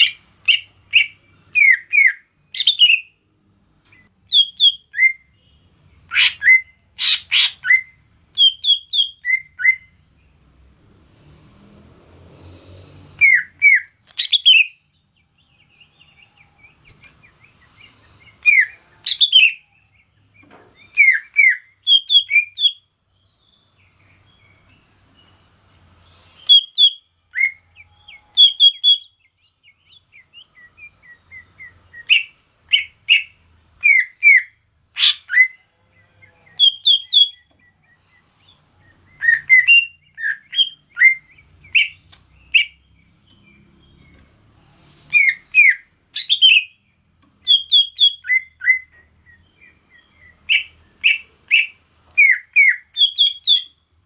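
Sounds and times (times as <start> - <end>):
bird whistling song: 0.0 - 3.2, 3.9 - 10.0, 13.0 - 25.4, 26.0 - 44.2, 45.0 - 53.8.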